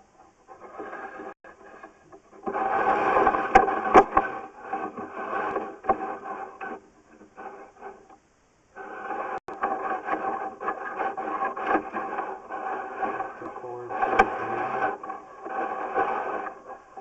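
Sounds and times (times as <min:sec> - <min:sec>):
camera cable scraping inside drain pipe: 0:00.4 - 0:08.2, 0:08.8 - 0:17.0.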